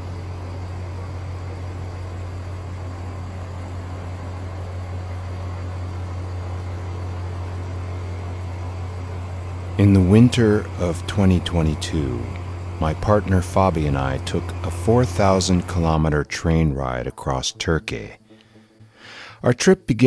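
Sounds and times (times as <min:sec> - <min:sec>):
locomotive engine droning: 0:00.0 - 0:19.6.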